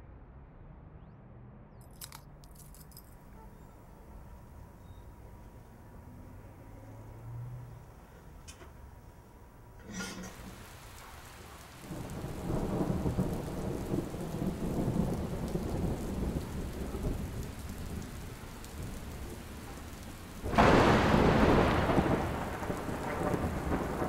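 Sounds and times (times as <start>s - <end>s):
rain: 1.9s - 24.0s
thunder rumbling: 3.2s - 24.0s.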